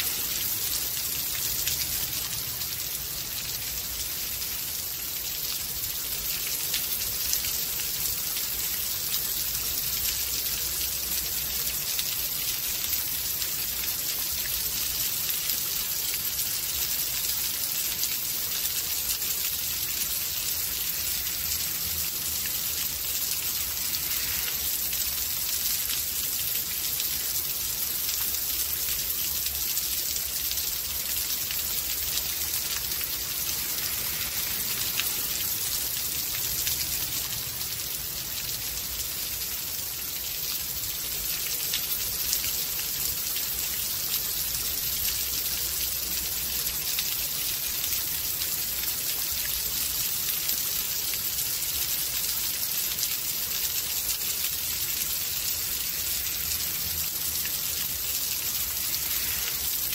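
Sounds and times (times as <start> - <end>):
rain hissing: 0.0 - 59.9
raindrops ticking: 0.0 - 59.9.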